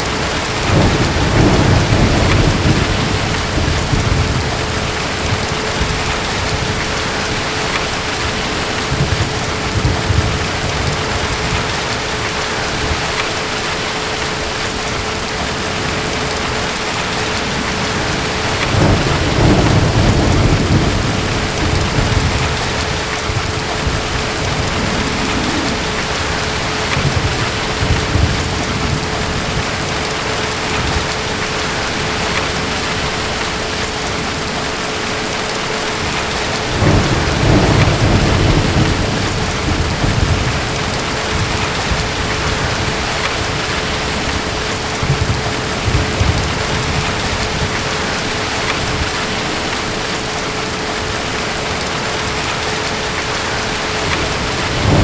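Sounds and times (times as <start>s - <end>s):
distant thunder rumbling: 0.0s - 50.2s, 51.9s - 55.0s
heavy rain: 0.0s - 55.0s.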